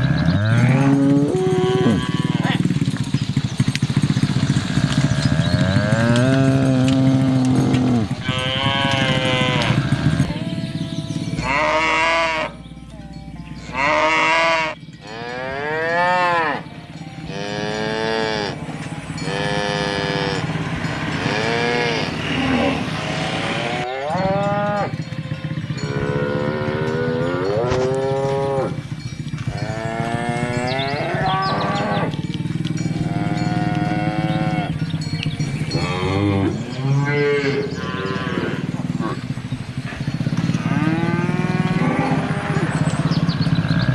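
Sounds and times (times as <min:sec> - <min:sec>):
cattle mooing: 0:00.0 - 0:10.5, 0:11.4 - 0:12.7, 0:13.5 - 0:43.9.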